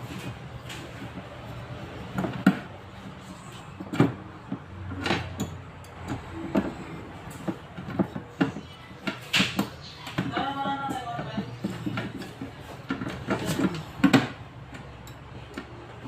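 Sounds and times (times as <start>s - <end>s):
parts knocking and clattering: 0.0s - 16.0s.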